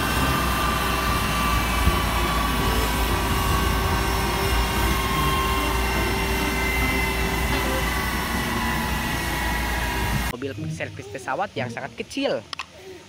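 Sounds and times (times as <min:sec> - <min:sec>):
jet turbines rushing hiss: 0:00.0 - 0:12.6
turbine whine: 0:00.0 - 0:12.6.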